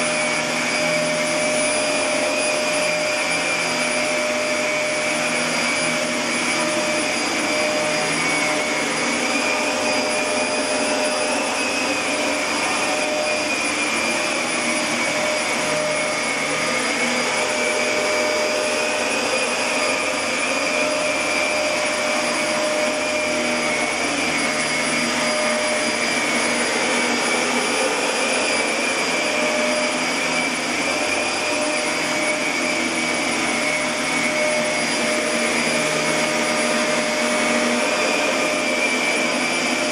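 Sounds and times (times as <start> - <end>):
machine whirring with high whine: 0.0 - 39.9.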